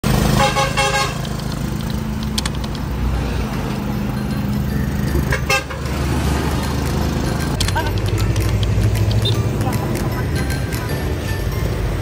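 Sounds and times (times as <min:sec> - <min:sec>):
tricycle engine running: 0:00.0 - 0:12.0.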